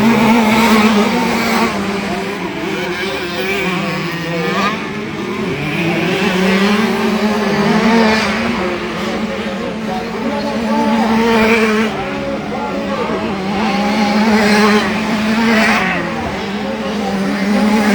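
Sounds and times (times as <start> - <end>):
two-stroke motocross bike engines: 0.0 - 17.9.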